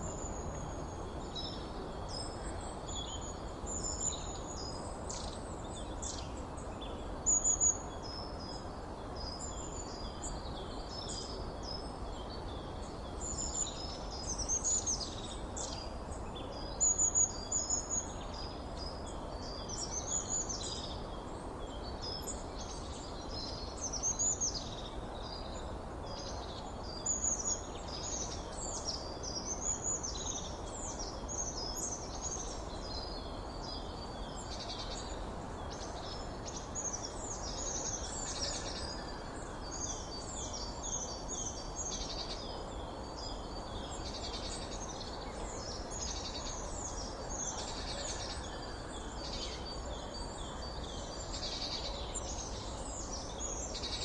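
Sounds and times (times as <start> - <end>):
low background hiss: 0.0 - 54.0.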